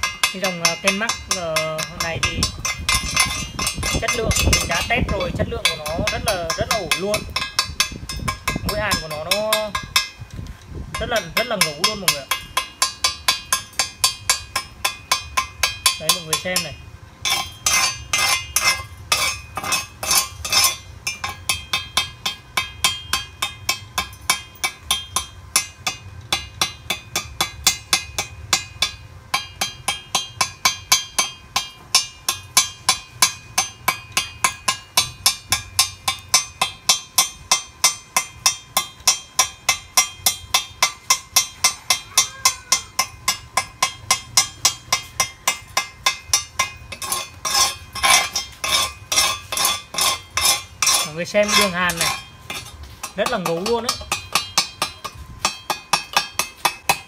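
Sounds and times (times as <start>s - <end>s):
chipping hammer clinking on metal: 0.0s - 10.2s, 11.0s - 57.0s.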